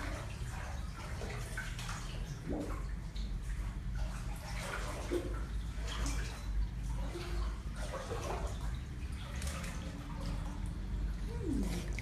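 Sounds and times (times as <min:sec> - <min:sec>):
steady low hum: 0:00.0 - 0:12.0
water sloshing and splashing: 0:00.0 - 0:12.0.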